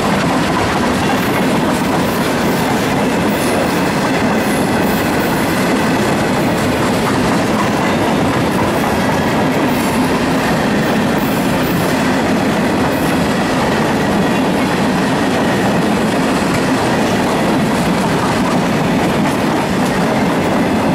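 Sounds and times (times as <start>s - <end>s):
train wheels on rails: 0.0s - 20.9s.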